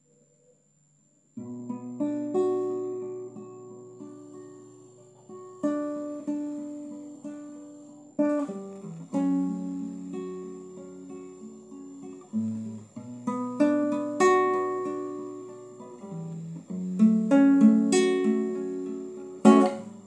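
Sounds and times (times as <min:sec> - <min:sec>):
acoustic guitar chords: 0:01.4 - 0:20.0.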